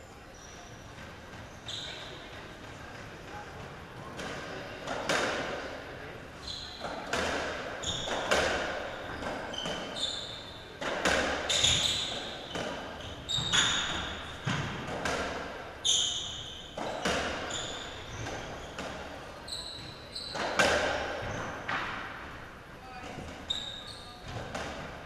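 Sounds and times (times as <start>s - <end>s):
shoes squeaking on court floor: 0.3s - 5.8s, 6.4s - 22.2s, 23.0s - 25.0s.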